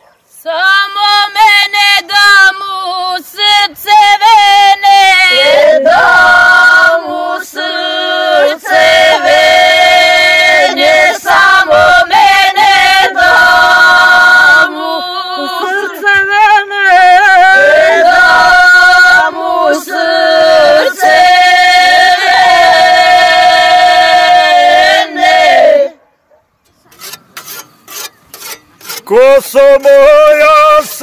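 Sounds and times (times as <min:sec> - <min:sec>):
women singing unaccompanied: 0:00.4 - 0:26.0.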